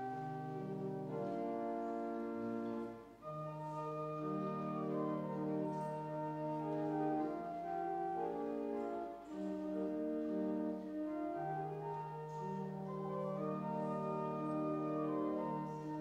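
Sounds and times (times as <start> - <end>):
organ playing chords: 0.0 - 16.0.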